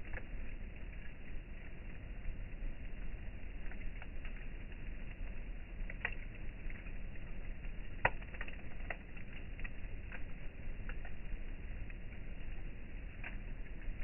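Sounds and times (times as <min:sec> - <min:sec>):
campfire crackling and popping: 0:00.0 - 0:14.0
low fire rumble: 0:00.0 - 0:14.0.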